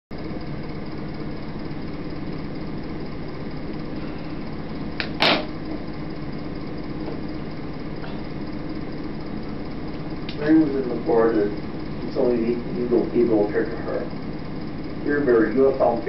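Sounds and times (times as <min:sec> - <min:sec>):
background hum and hiss: 0:00.1 - 0:16.0.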